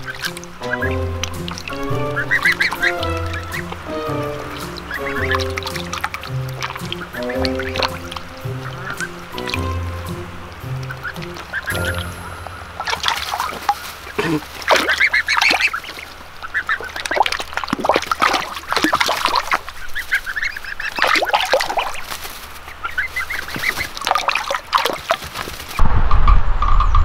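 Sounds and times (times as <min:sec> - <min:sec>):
birds splashing in water: 0:00.0 - 0:25.8
goslings peeping: 0:00.0 - 0:25.8.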